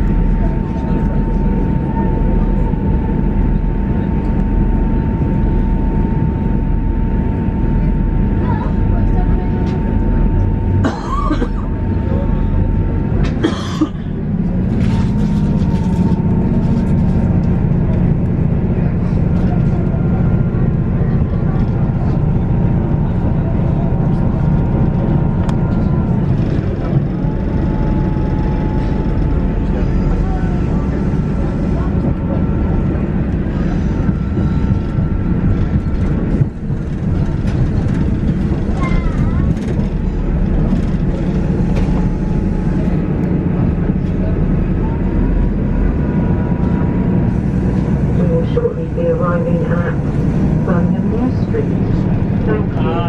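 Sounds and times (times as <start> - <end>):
thin steady whine: 0.0 - 13.4, 14.1 - 53.0
train wheels rumbling: 0.0 - 53.0.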